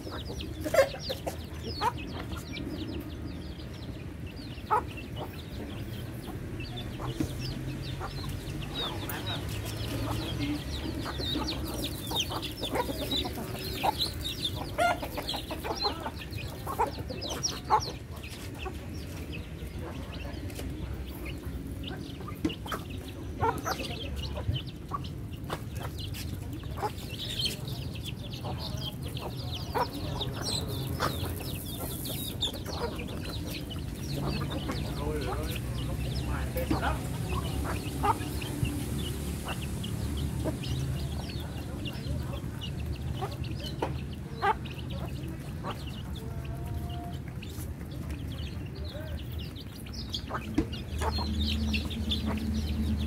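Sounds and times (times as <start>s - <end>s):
chicks peeping: 0.0s - 53.0s
hens clucking: 0.0s - 53.0s
beaks pecking grain off concrete: 3.8s - 53.0s.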